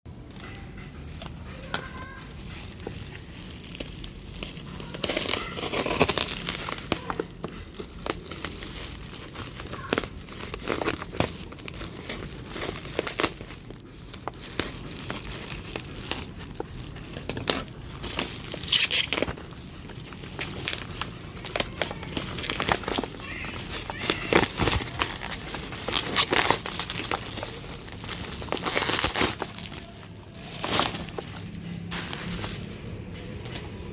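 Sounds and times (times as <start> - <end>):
packaging crinkling and tearing: 2.2 - 33.9.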